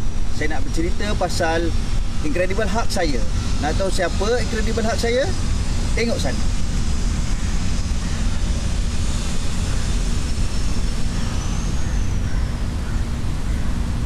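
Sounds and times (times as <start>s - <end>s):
faint high whine: 0.0s - 14.0s
low outdoor rumble: 0.0s - 14.0s.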